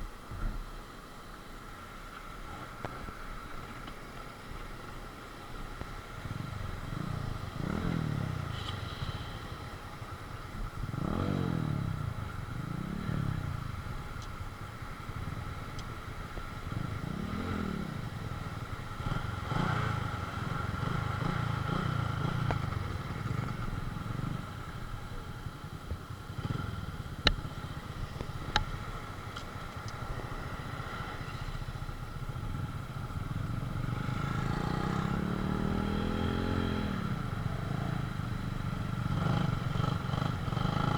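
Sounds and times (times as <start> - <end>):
motorcycle engine revving: 6.2 - 14.3, 15.0 - 40.9.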